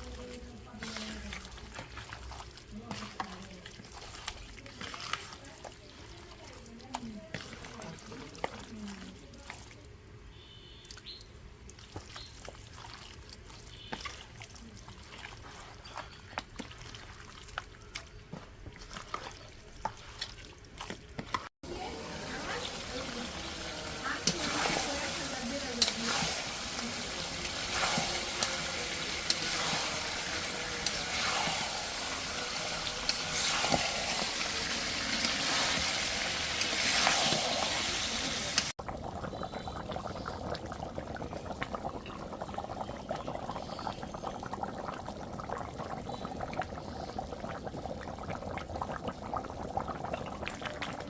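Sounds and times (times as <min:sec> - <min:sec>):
curry sizzling and bubbling in pot: 0:00.0 - 0:51.0.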